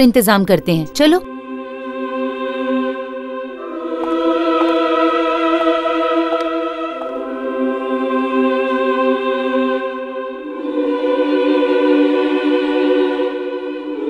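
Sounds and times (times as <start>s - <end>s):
choir-like horror score: 1.2s - 14.0s.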